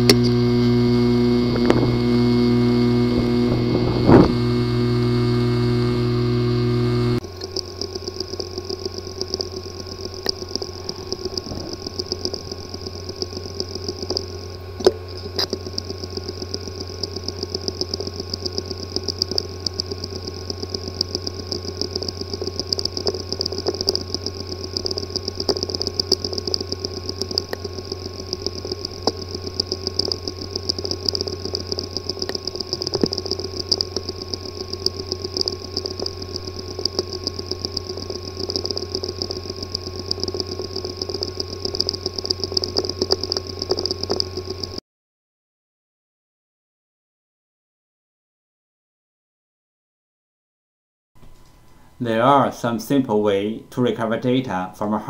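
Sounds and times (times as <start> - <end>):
hard disk motor hum: 0.0 - 44.8
hard disk ticking and clicking: 0.0 - 44.8.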